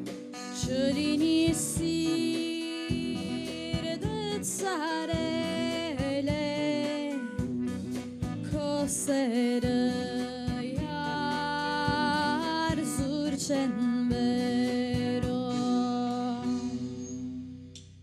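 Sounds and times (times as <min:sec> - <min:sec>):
live band playing: 0:00.0 - 0:17.2
woman singing: 0:00.5 - 0:07.5, 0:08.4 - 0:17.4.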